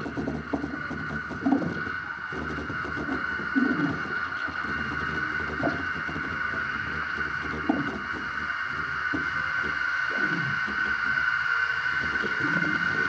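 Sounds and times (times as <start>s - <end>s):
low rumbles: 0.0s - 13.0s
steady high electronic drone: 0.0s - 13.0s
swooping electronic swells: 0.0s - 13.0s.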